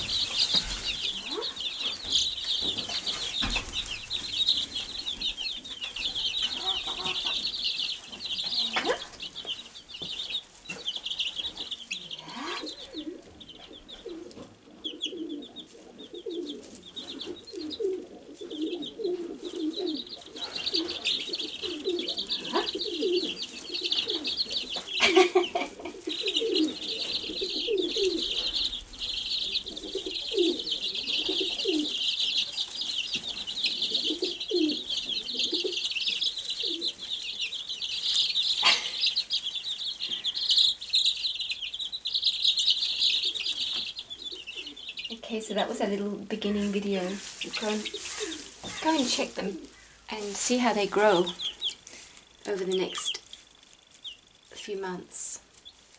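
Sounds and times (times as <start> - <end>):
lower bird calls: 0.0 - 45.2
chicks peeping: 0.0 - 55.9.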